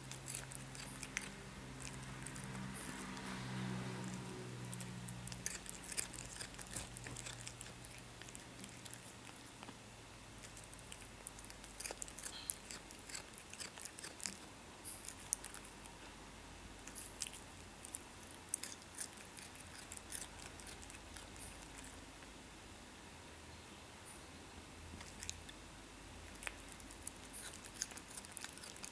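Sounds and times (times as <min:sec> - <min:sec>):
cat crunching cucumber: 0:00.0 - 0:16.1, 0:16.8 - 0:22.1, 0:24.9 - 0:25.6, 0:26.2 - 0:28.9.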